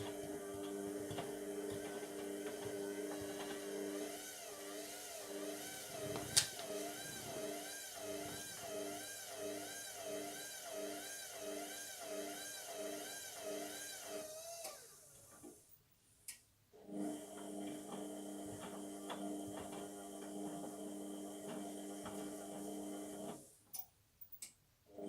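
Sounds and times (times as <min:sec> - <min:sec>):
washing machine motor whining: 0:00.0 - 0:15.6, 0:16.9 - 0:23.4.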